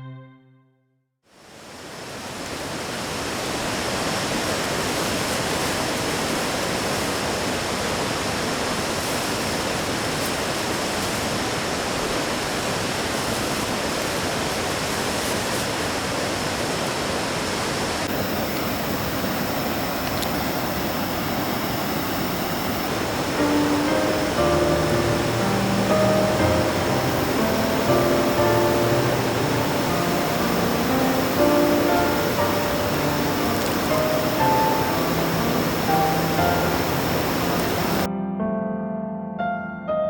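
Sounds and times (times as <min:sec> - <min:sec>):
stream water rushing: 0:01.4 - 0:38.1.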